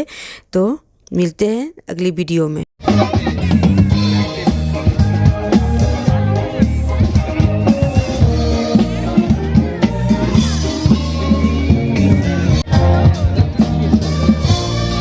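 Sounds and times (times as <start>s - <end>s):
music with drum beat and bass: 2.8s - 15.0s.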